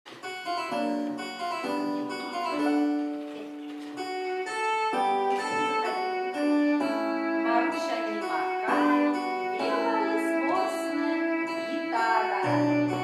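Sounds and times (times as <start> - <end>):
keyboard melody over chords: 0.1 - 13.0.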